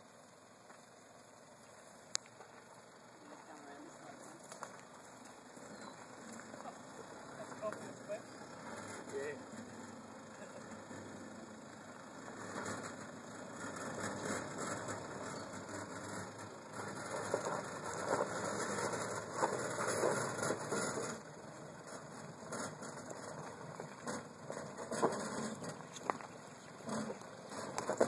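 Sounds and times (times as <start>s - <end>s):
engine running at low revs: 0.0s - 28.0s
tyres crunching on loose stones: 2.2s - 9.8s, 12.4s - 28.0s.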